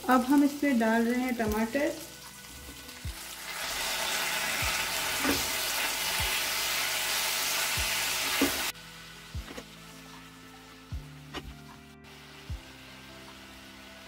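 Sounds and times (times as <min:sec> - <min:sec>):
soft background music: 0:00.0 - 0:14.0
vegetables sizzling in oil: 0:00.0 - 0:14.0.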